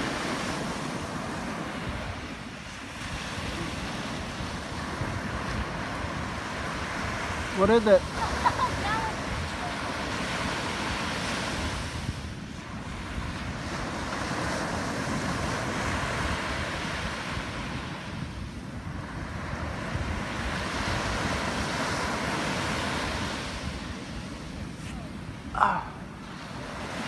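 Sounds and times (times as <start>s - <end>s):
surf washing up a sandy beach: 0.0s - 27.0s
wind rumbling on microphone: 0.0s - 27.0s.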